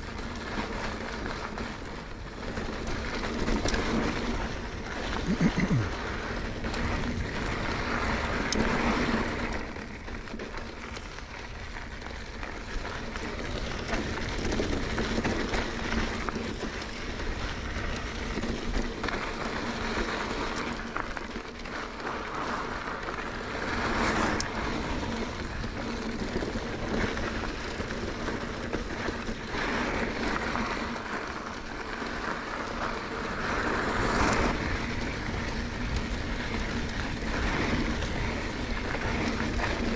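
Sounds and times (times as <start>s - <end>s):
bike tyres on rocky trail: 0.0s - 39.9s.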